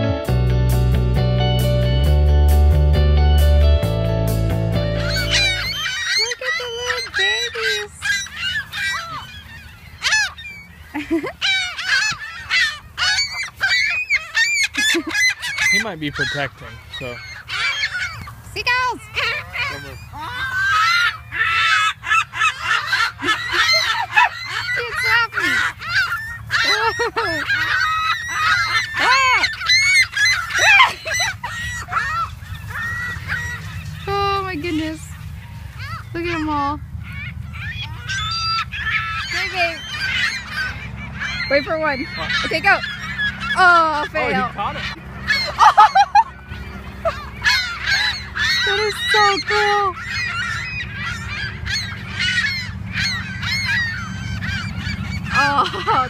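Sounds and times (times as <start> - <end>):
flock of birds calling harshly: 4.8 - 56.0.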